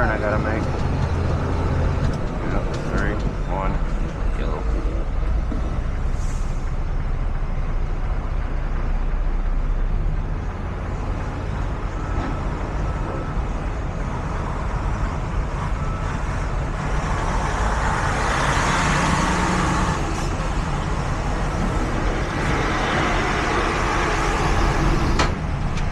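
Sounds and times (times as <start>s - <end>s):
road noise: 0.0s - 25.9s
truck diesel engine running: 0.0s - 25.9s.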